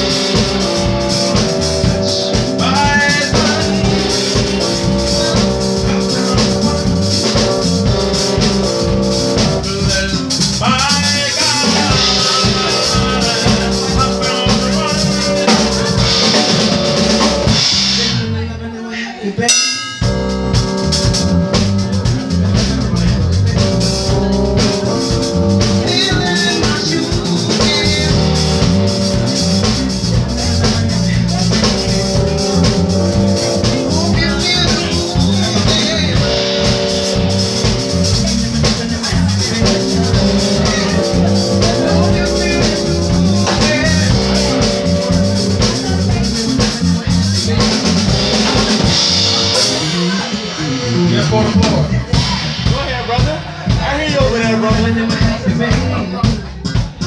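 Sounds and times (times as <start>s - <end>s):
drums: 0.0s - 57.0s
electric keyboard chords: 0.0s - 57.0s.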